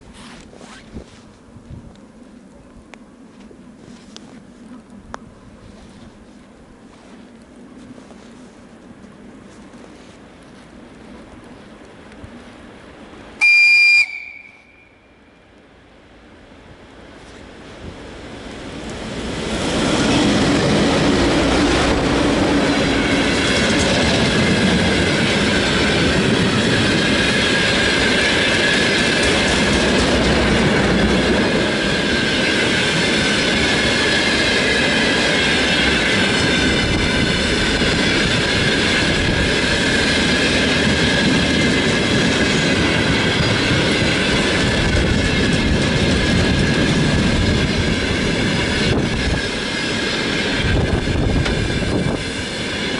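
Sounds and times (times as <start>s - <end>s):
freight train wheels on rails: 0.0s - 52.9s.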